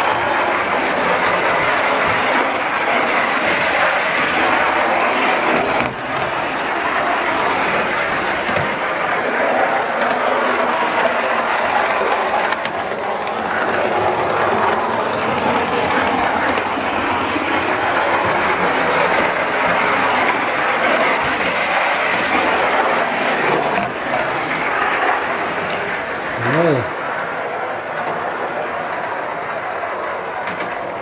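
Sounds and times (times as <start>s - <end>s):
steam hissing: 0.0s - 31.0s.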